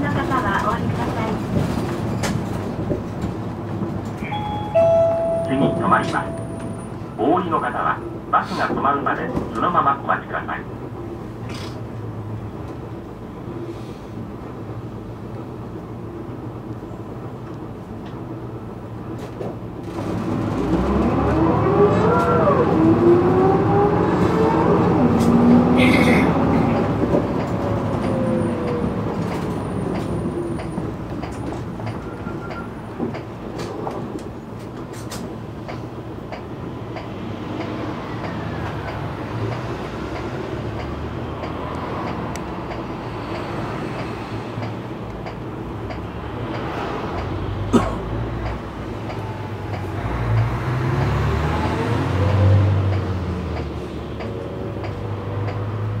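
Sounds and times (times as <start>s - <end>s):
bus engine accelerating: 0.0s - 56.0s
bus ride noise: 0.0s - 56.0s.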